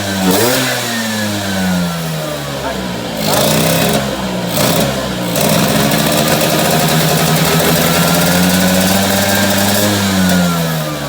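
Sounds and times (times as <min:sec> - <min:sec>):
two-stroke scooter engine revving: 0:00.0 - 0:11.0.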